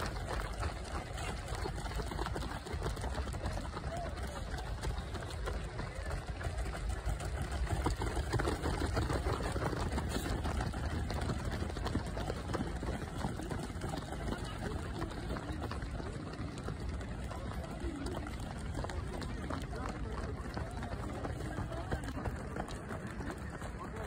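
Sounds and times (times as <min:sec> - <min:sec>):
runners' footsteps on a track: 0:00.0 - 0:24.0.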